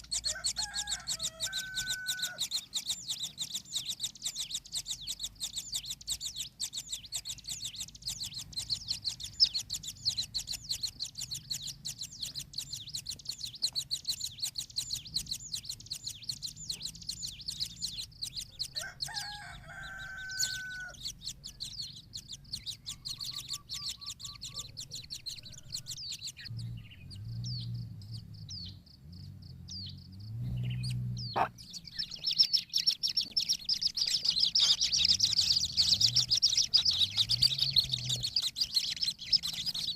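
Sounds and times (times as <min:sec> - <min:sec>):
nestlings begging chirps: 0:00.0 - 0:39.9.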